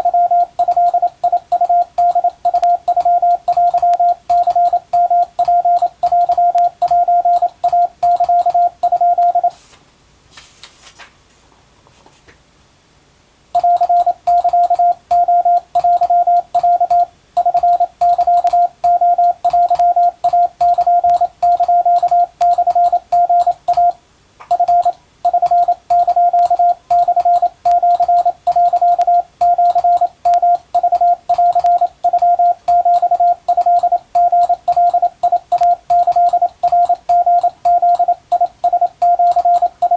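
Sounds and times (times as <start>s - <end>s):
morse code beeping: 0.0s - 9.6s, 13.6s - 39.9s.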